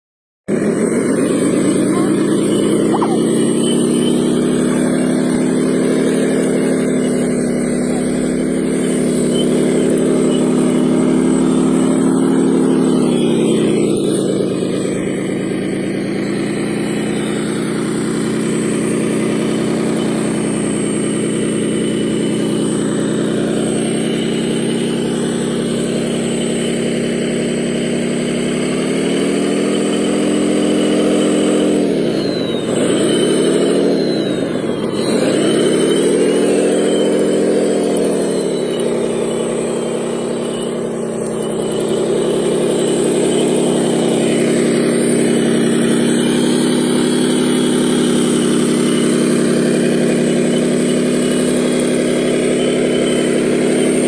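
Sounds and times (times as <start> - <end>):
model machine engine drone: 0.5 - 54.0.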